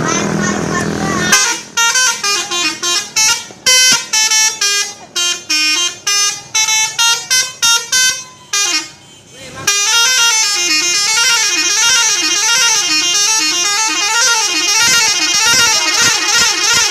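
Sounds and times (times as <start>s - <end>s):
multi-tone musical bus horn: 1.2s - 16.9s.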